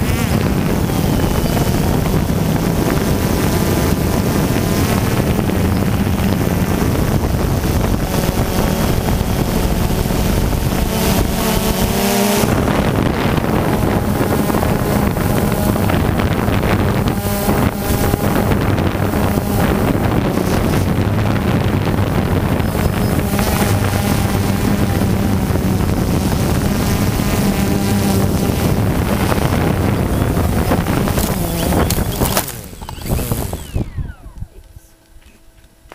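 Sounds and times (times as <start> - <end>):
wind rushing over microphone: 0.0 - 34.8
drone motors and propellers: 0.0 - 35.9.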